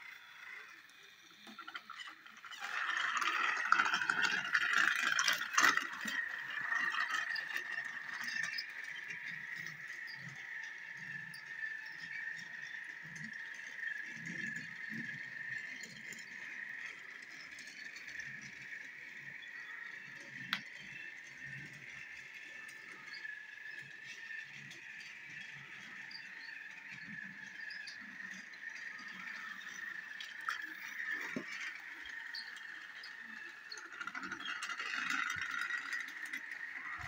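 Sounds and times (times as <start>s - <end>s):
toy train motor whirring: 0.0s - 37.0s
toy wheels rattling over track: 0.0s - 37.0s.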